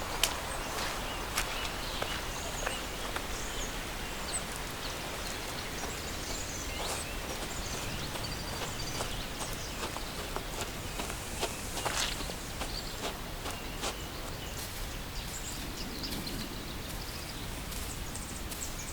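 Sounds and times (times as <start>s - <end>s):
footsteps on leaves: 0.0s - 18.8s
small birds chirping: 0.0s - 18.9s.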